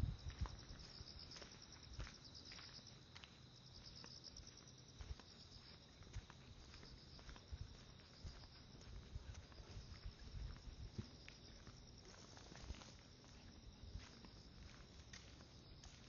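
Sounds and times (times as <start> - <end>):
insects trilling: 0.0 - 16.0
soft footsteps: 0.1 - 16.0.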